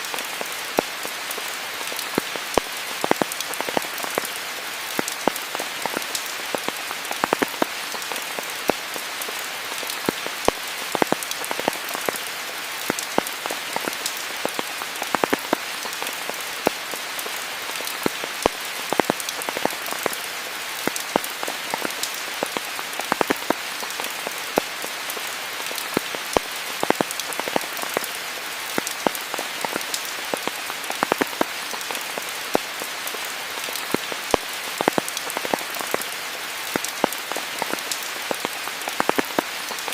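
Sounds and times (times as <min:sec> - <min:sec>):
rain hissing: 0:00.0 - 0:39.9
raindrops pattering: 0:00.0 - 0:39.9.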